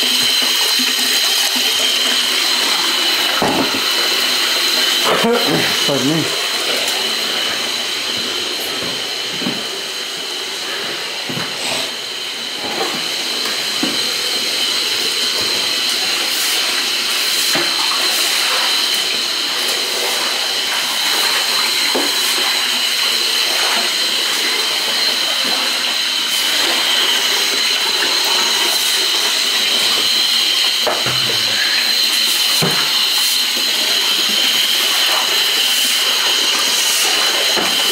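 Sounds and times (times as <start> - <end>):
drain machine motor whine: 0.0 - 37.9.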